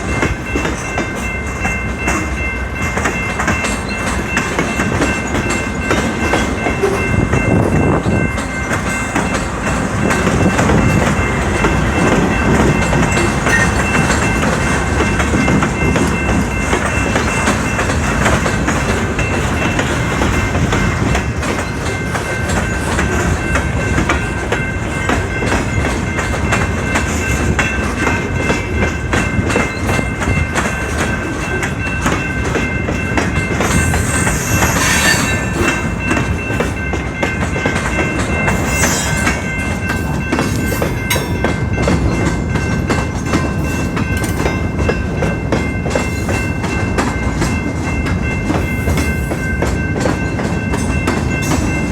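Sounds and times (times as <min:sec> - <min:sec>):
freight train wheels clacking: 0:00.0 - 0:51.9.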